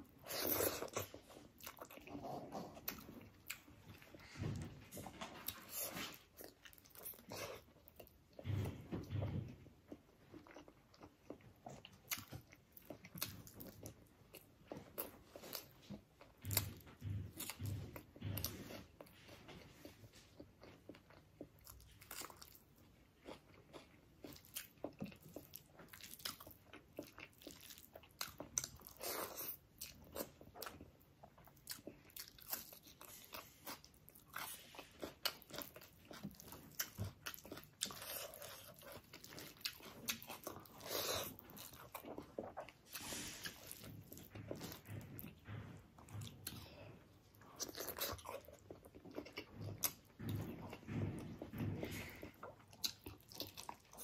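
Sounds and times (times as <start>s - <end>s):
wet chewing and crunchy bites: 0.0s - 54.0s.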